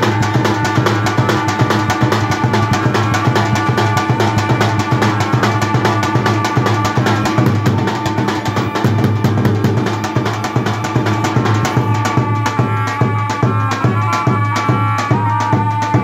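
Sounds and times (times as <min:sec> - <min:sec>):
large drums beaten in fast rhythm: 0:00.0 - 0:16.0
reedy pipe melody: 0:00.0 - 0:16.0.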